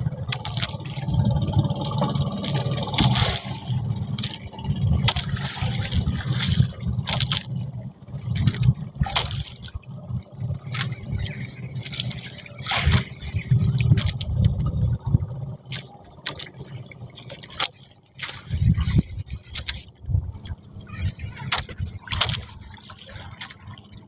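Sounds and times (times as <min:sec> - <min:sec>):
steady low rumble: 0:00.0 - 0:24.0
water splashing and dripping: 0:00.0 - 0:24.0.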